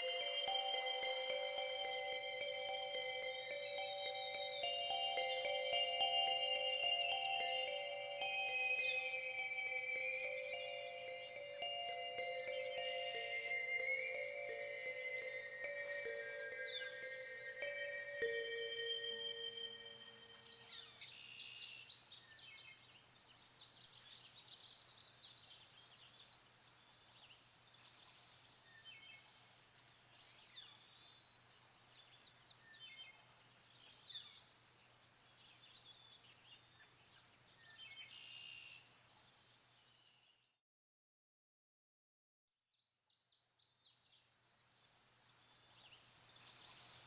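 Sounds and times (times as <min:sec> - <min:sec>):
songbirds singing and calling: 0:00.0 - 0:40.5, 0:42.8 - 0:47.0.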